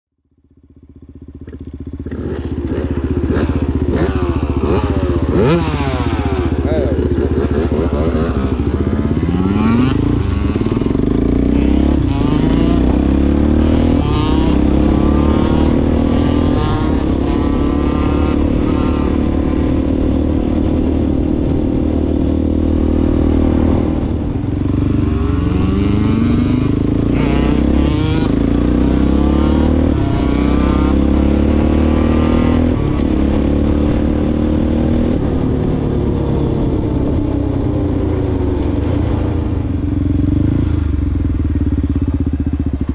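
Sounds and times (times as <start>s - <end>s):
off-road vehicle engine revving: 1.5s - 37.2s.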